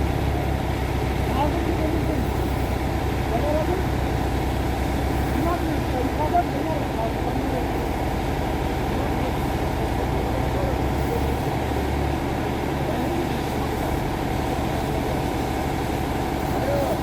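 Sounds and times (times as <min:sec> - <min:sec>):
vehicle engine idling: 0:00.0 - 0:17.0
faint voices: 0:01.1 - 0:17.0.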